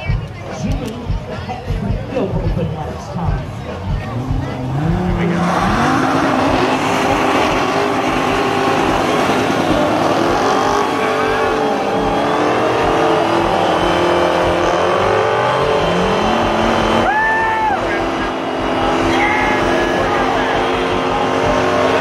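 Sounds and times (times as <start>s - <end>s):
car engine at high revs: 3.0s - 22.0s.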